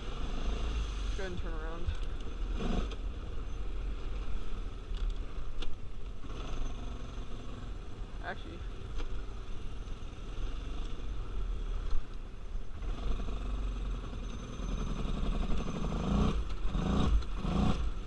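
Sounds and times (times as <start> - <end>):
atv engine running and revving: 0.0 - 18.0.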